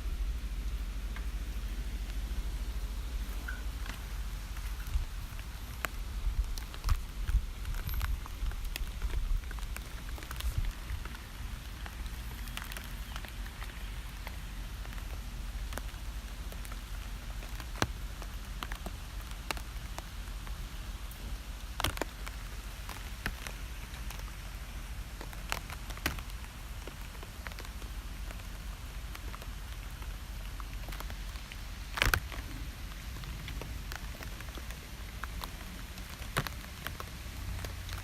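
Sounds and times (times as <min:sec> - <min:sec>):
rain falling: 0:00.0 - 0:38.0
raindrops ticking: 0:00.0 - 0:38.0.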